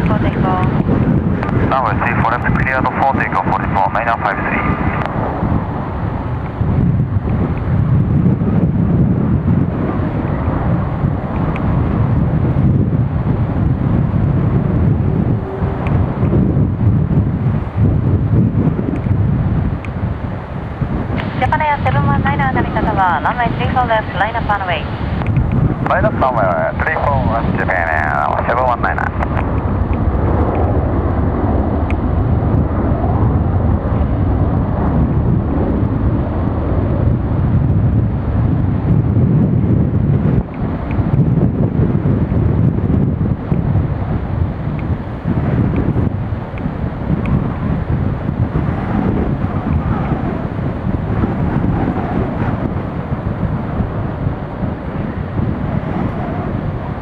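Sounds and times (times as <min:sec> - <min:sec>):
jet engines rumbling: 0:00.0 - 0:57.0
wind rumbling on microphone: 0:00.0 - 0:57.0.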